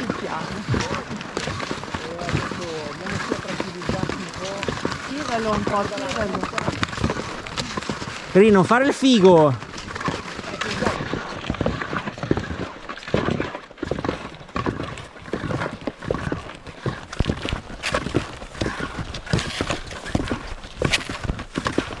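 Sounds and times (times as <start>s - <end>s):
skis sliding and crunching on snow: 0.0s - 22.0s.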